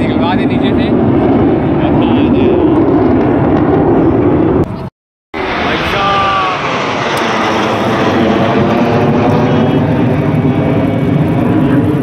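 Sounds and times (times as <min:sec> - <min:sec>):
aircraft engine flying past: 0:00.0 - 0:12.0.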